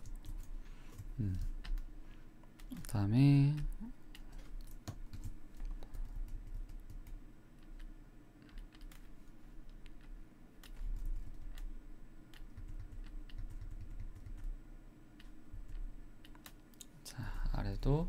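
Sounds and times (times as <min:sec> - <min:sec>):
keyboard and mouse clicks: 0:00.0 - 0:11.7, 0:12.3 - 0:14.5, 0:15.2 - 0:16.9.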